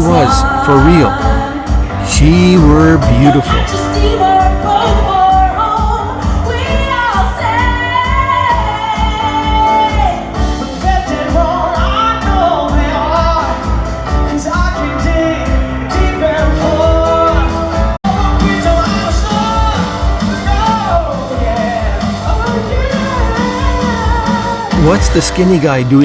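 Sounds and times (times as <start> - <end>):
music with singing over a beat: 0.0 - 26.0.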